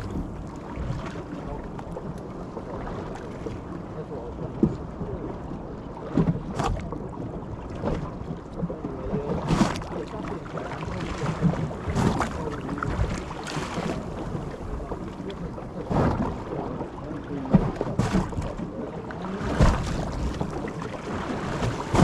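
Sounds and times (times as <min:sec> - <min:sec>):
low water rumble: 0:00.0 - 0:22.0
wind buffeting microphone: 0:00.0 - 0:22.0.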